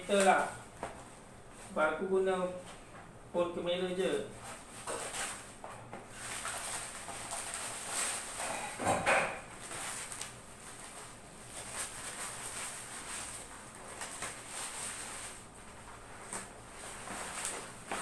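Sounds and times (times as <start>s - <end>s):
plastic rustling: 0.0s - 2.6s, 4.2s - 18.0s.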